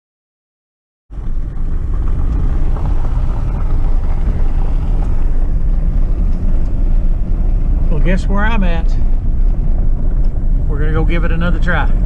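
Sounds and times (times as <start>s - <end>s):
loud low vehicle rumble: 1.1s - 12.0s
wind buffeting microphone: 1.1s - 12.0s.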